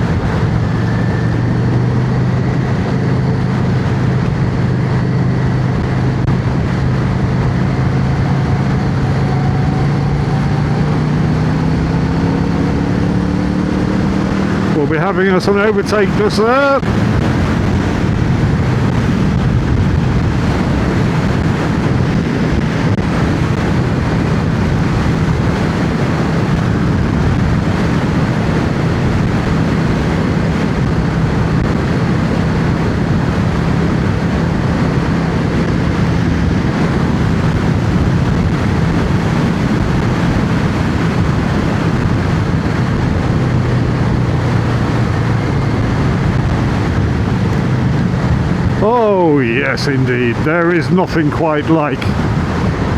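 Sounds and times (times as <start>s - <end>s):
motorcycle engine running: 0.0s - 49.4s
wind rushing over microphone: 0.0s - 52.9s.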